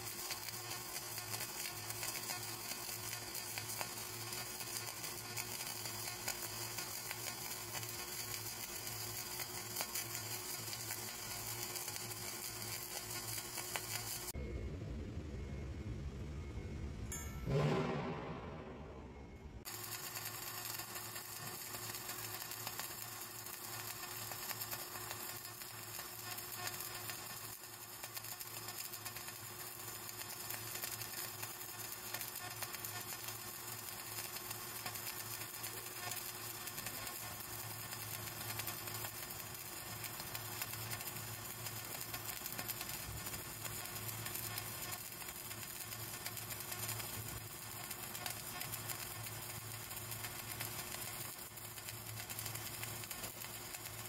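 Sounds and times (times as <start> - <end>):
welding arc crackling: 0.0 - 14.4, 19.6 - 54.0.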